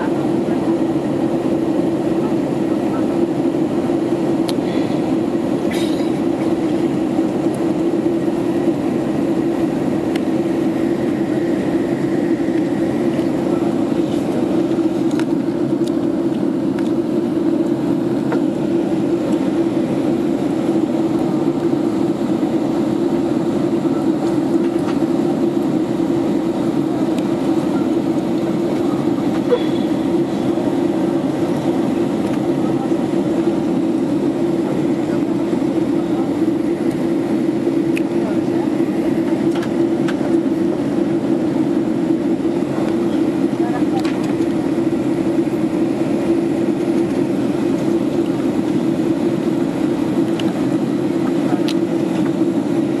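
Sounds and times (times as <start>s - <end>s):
jet engine and airflow roar: 0.0s - 53.0s.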